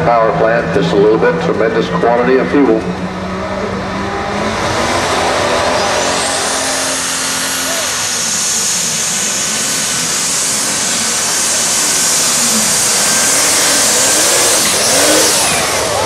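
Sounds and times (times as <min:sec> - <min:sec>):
tractor engine at full throttle: 0:00.0 - 0:16.0.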